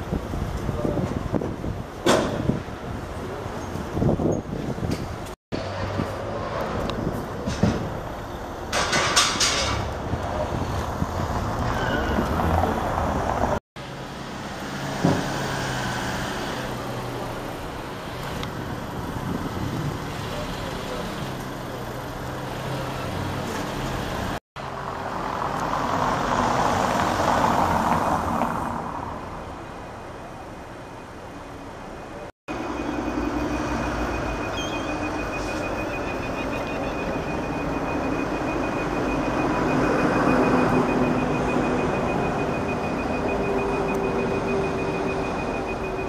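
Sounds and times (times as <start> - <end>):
road vehicles passing: 0.0 - 46.0.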